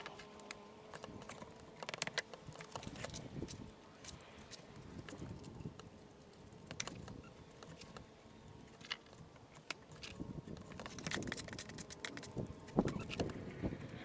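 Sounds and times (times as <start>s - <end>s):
stone and tools clicking: 0.0s - 13.4s.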